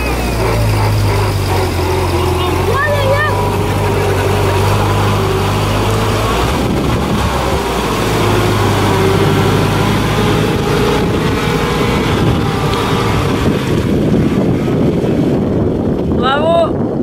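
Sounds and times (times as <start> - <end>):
water splashing around wheels: 0.0 - 16.3
vehicle engine running: 0.0 - 17.0
wind buffeting microphone: 0.0 - 17.0.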